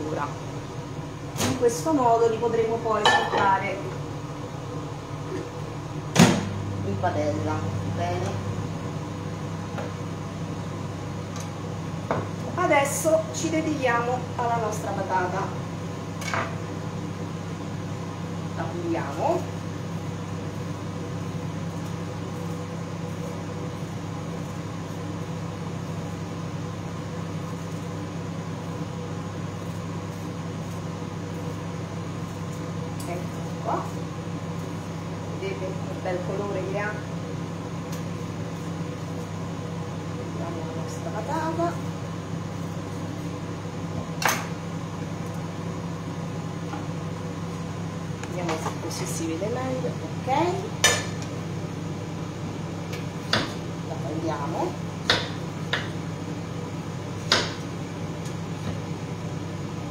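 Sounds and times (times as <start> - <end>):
microwave oven humming: 0.0 - 59.9.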